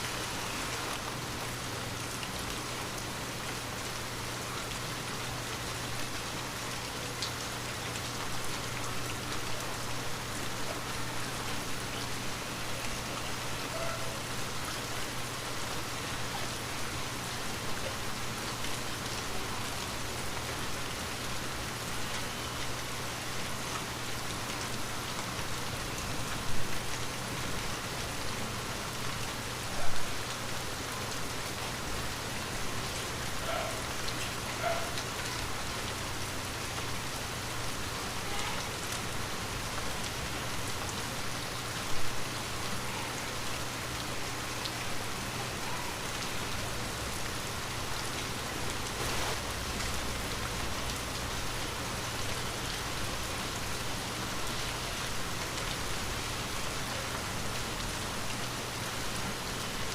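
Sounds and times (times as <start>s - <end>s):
light rain falling: 0.0s - 59.9s.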